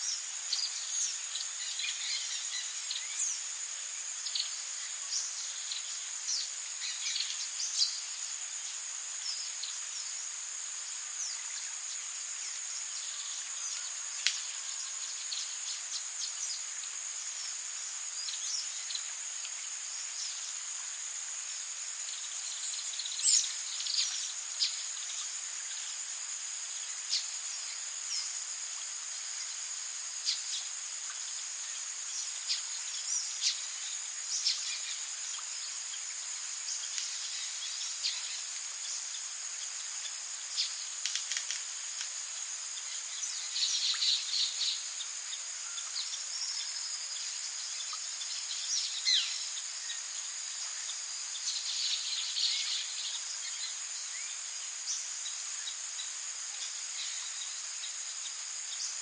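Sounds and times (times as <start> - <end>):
high-pitched insect trill: 0.0 - 59.0
rain hiss: 0.0 - 59.0.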